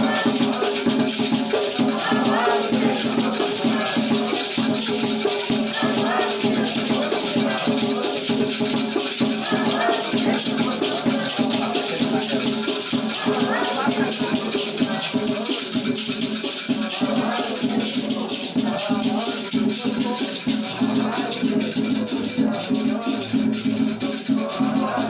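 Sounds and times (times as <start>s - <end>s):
drums beating a rhythm: 0.0s - 25.0s
shaker rattling: 0.0s - 25.0s
voices singing: 0.0s - 25.0s.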